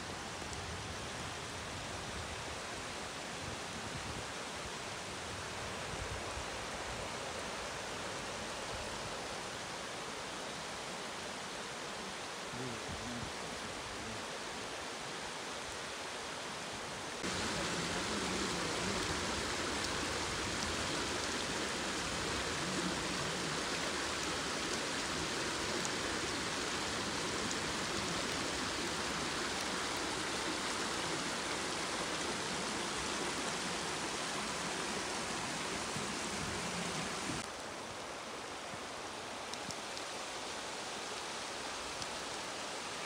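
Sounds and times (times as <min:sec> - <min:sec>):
stream rushing: 0:00.0 - 0:43.0.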